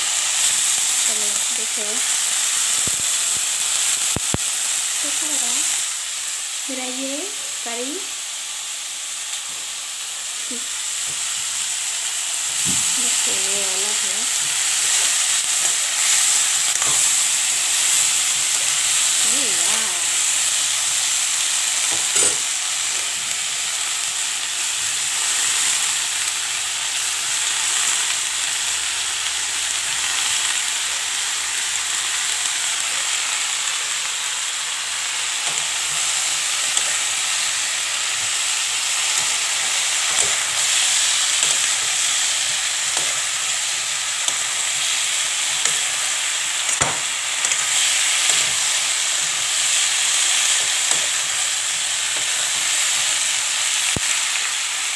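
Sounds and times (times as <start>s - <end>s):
food sizzling in hot oil: 0.0s - 54.9s.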